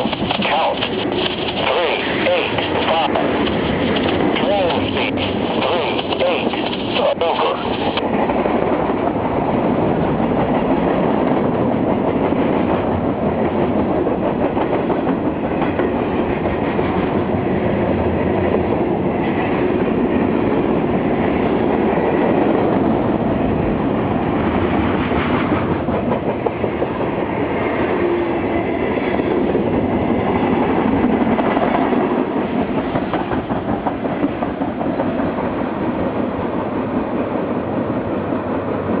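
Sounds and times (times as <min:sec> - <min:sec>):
clickety-clack over rail joints: 0:00.0 - 0:39.0
train wheels rumbling on rails: 0:00.0 - 0:39.0.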